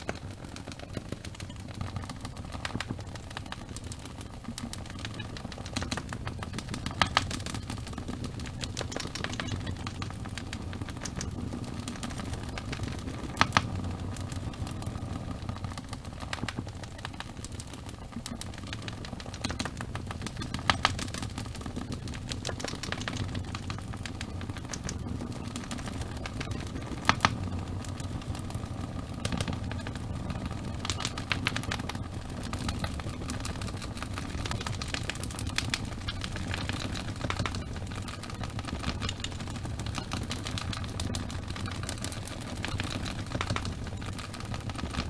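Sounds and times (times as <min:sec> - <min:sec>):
fire pops and snaps: 0:00.0 - 0:45.0
low rumble of flames: 0:00.0 - 0:45.0
wood fire crackling: 0:00.0 - 0:45.0.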